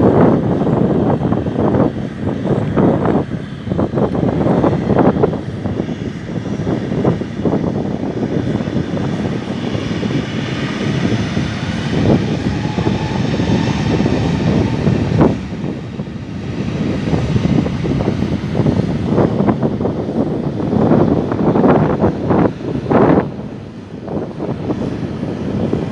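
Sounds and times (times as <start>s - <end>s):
jet airliner taking off: 0.0s - 25.9s
wind buffeting microphone: 0.0s - 25.9s.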